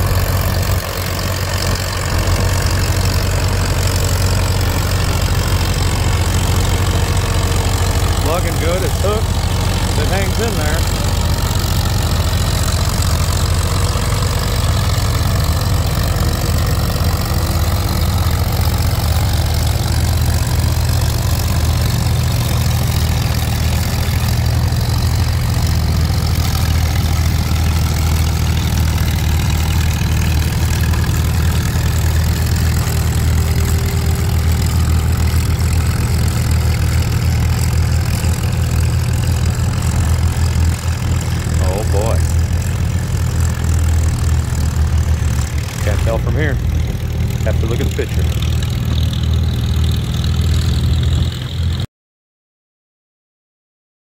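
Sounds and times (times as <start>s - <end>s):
tractor engine under heavy load: 0.0s - 51.9s.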